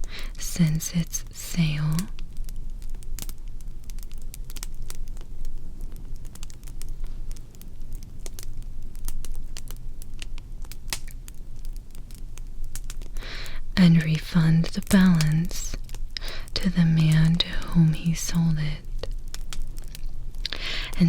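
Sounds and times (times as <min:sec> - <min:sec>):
fire crackling and popping: 0:00.0 - 0:21.0
low steady rumble: 0:00.0 - 0:21.0.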